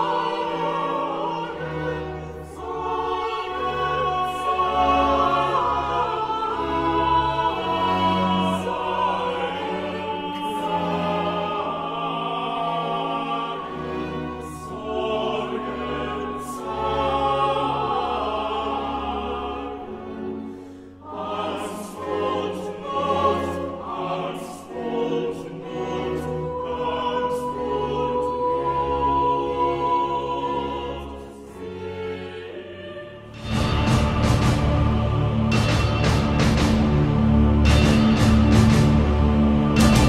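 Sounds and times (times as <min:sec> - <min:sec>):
choral singing: 0:00.0 - 0:40.0
orchestra playing: 0:00.0 - 0:40.0.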